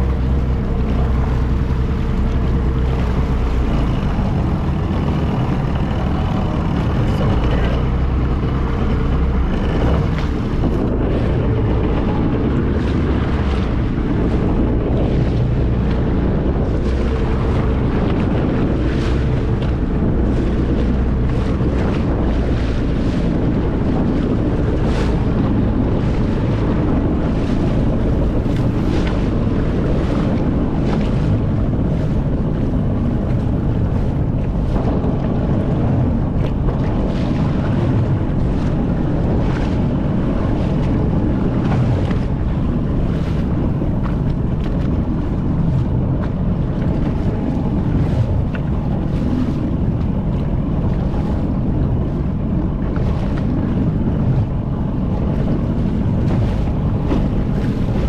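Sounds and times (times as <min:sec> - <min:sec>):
jet ski engine running: 0:00.0 - 0:58.0
waves splashing: 0:00.0 - 0:58.0
wind buffeting microphone: 0:00.0 - 0:58.0.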